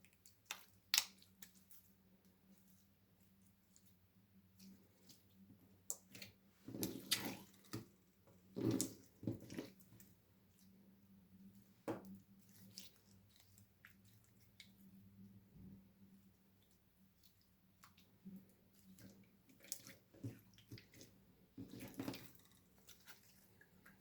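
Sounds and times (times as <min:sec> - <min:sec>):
slime squelching: 0:00.0 - 0:10.8, 0:11.4 - 0:15.2, 0:16.5 - 0:24.0.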